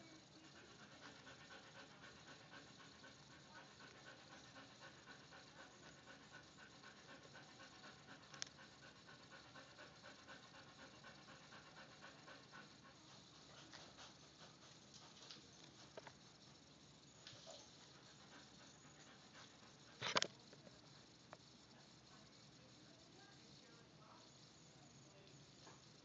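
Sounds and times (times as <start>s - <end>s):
dog panting: 0.0s - 24.3s.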